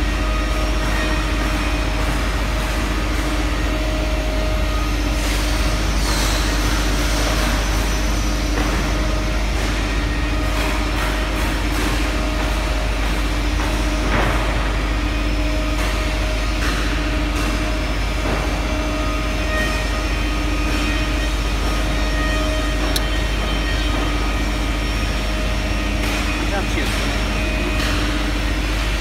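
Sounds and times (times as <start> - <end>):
workshop machinery hum: 0.0 - 29.0.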